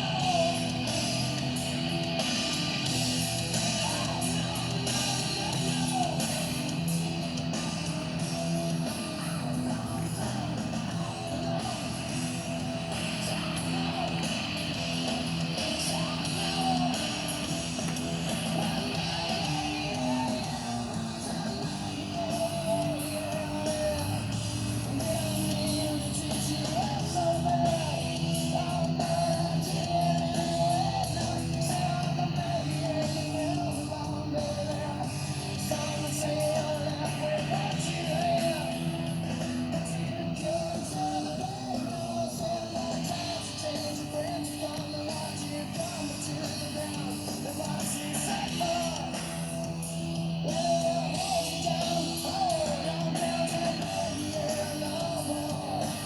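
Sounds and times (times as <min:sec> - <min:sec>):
rock music with electric guitars: 0:00.0 - 0:56.0.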